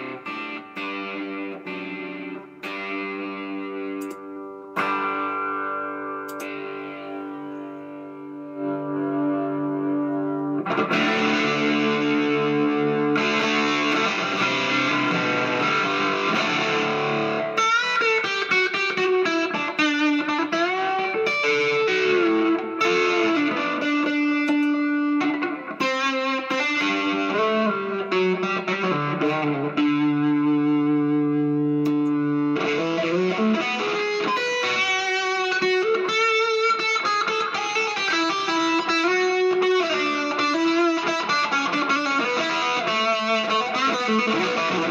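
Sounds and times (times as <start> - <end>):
distorted electric guitar: 0.0 - 44.9.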